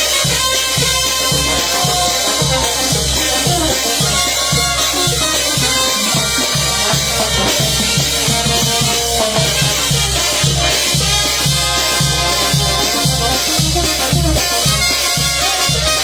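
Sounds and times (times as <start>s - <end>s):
bass drum beat: 0.0s - 16.0s
brass horn lines: 0.0s - 16.0s
drum kit: 0.0s - 16.0s.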